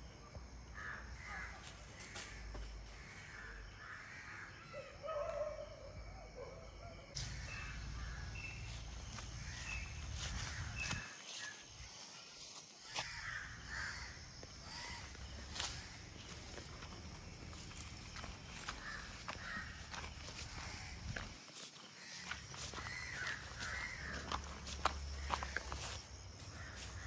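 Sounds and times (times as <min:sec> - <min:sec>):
crows cawing: 0:00.7 - 0:05.4, 0:07.2 - 0:11.1, 0:12.8 - 0:16.8, 0:17.7 - 0:27.0.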